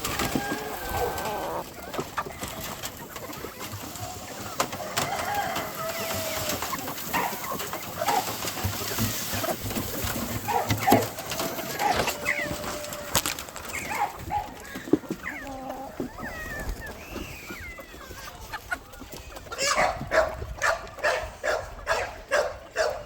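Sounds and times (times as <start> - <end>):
chickens clucking and calling: 0.0 - 23.0.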